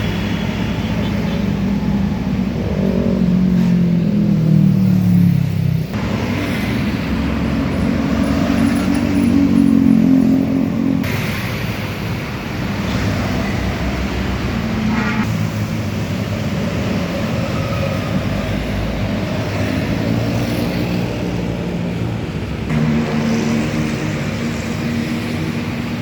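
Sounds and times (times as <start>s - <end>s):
bus engine running: 0.0s - 26.0s
road noise: 0.0s - 26.0s.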